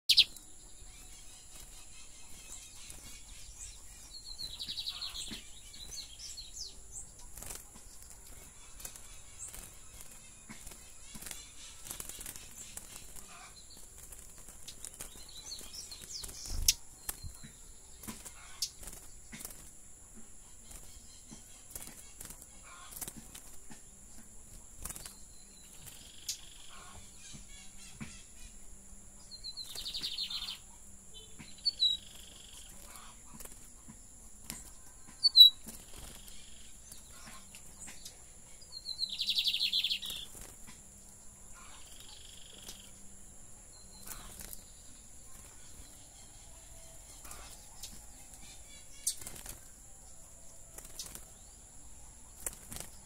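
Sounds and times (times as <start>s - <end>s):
bird twittering song: 0.0s - 53.0s
wing flutters: 1.0s - 28.2s, 29.5s - 30.6s, 31.4s - 38.2s, 38.9s - 43.2s, 43.8s - 53.0s.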